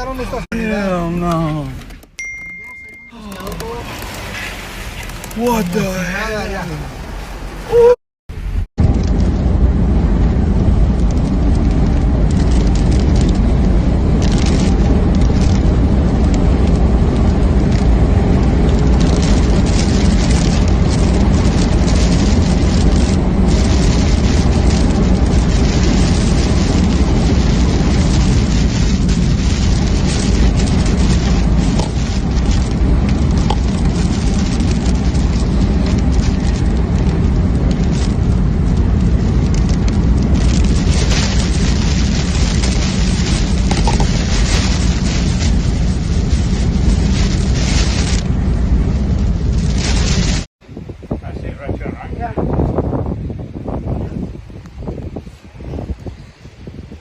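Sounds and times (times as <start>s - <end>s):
storm wind buffeting microphone: 3.7s - 57.0s.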